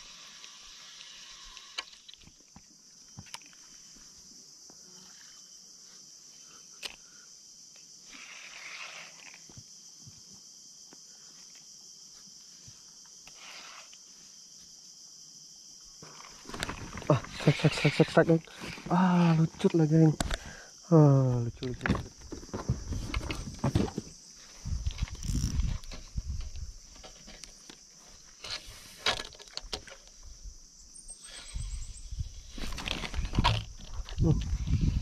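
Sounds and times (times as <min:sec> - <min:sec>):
high-pitched insect chorus: 0:00.0 - 0:35.0.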